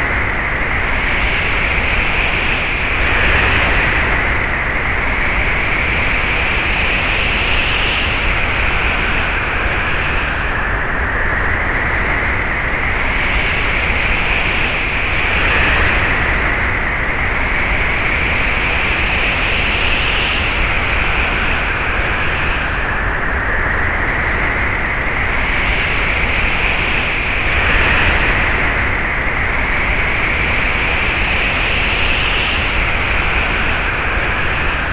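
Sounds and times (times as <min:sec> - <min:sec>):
whistling wind: 0:00.0 - 0:34.9.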